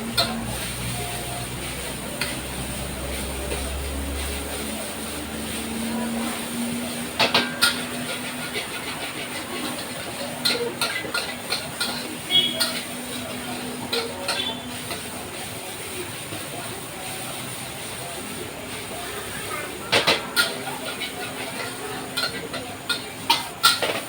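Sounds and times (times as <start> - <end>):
spatula clanking on a wok: 0.0 - 15.4, 19.4 - 24.0
frying hiss: 0.0 - 24.0.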